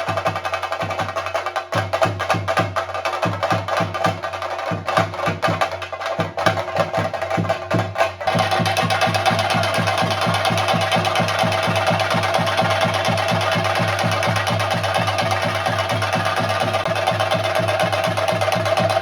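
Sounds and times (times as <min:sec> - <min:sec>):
drums beaten rapidly with sticks: 0:00.0 - 0:19.0.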